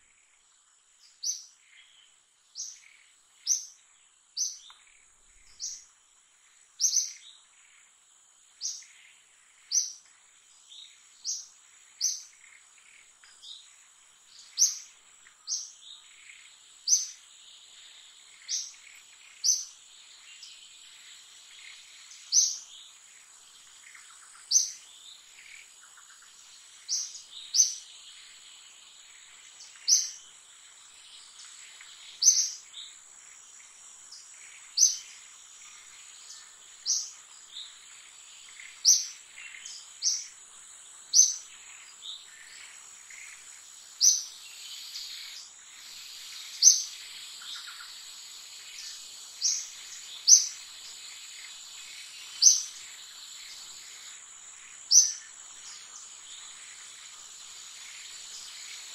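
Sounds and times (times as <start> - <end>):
high insect drone: 0.0 - 58.9.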